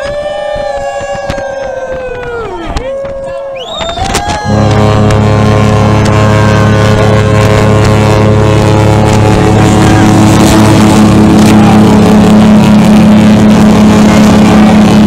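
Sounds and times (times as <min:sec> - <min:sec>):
ship horn low drone: 0:00.1 - 0:15.0.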